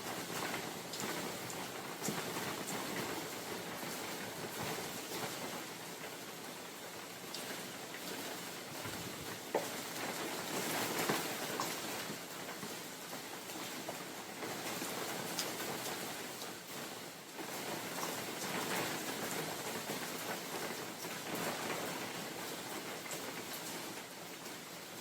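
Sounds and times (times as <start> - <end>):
rain pattering in a forest: 0.0 - 25.0
wind: 0.0 - 25.0.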